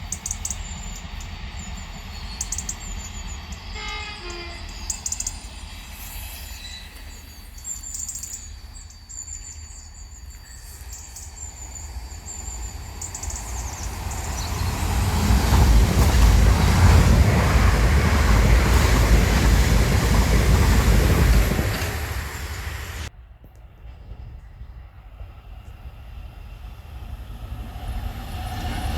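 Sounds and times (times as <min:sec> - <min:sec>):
train passing: 0:00.0 - 0:28.9.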